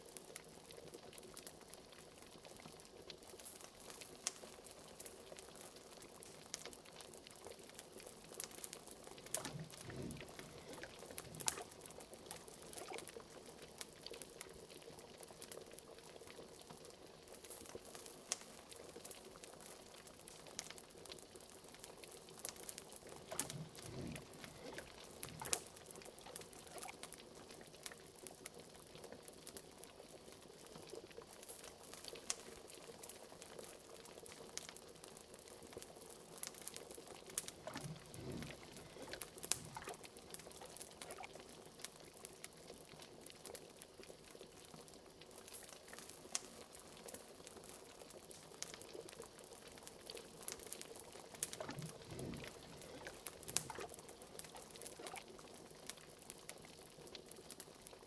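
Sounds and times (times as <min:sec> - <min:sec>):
liquid boiling in a pot: 0:00.0 - 0:58.0.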